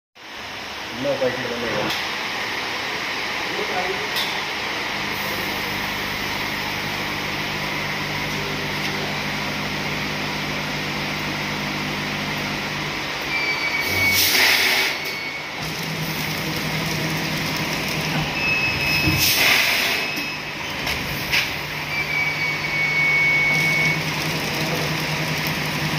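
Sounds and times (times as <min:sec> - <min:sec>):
machine humming: 0:02.4 - 0:25.9.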